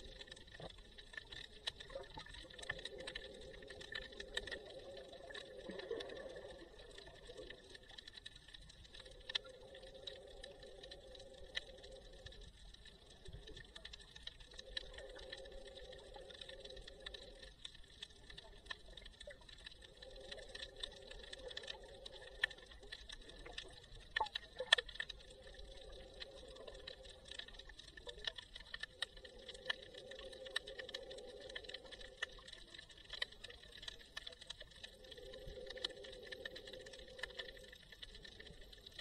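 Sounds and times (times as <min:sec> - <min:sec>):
underwater crackle of clicks: 0:00.0 - 0:39.0.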